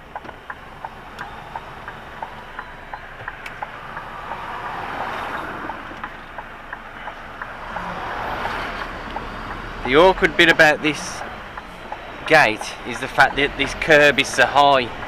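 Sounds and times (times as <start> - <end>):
idling truck rushing noise: 0.0 - 15.0
indicator relay ticking: 0.0 - 15.0.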